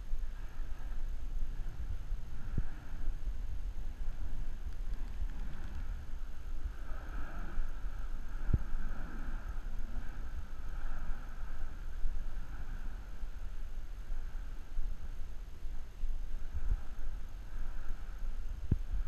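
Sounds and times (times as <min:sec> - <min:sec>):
volcanic vent rumble and hiss: 0:00.0 - 0:19.0
wind buffeting microphone: 0:00.0 - 0:19.0.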